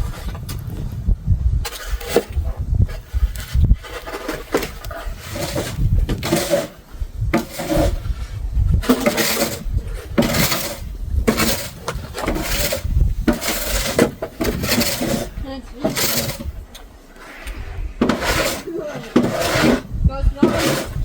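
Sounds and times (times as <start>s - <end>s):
snow shovel scraping pavement: 1.7s - 21.0s.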